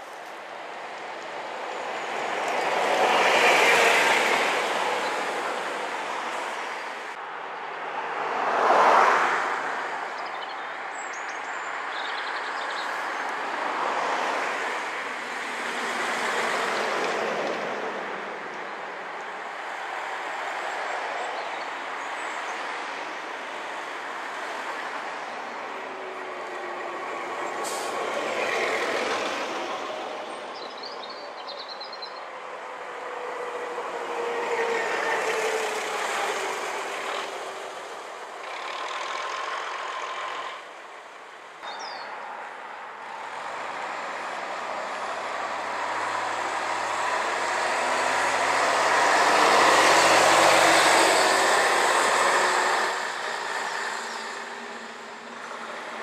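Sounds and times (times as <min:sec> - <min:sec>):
buses and cars driving past: 0:00.0 - 0:56.0.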